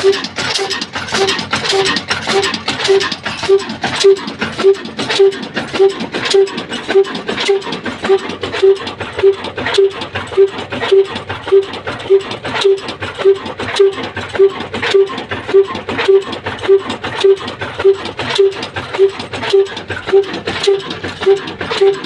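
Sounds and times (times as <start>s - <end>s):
sharp clicking and knocking: 0.0s - 22.0s
slow diesel engine running: 0.0s - 22.0s.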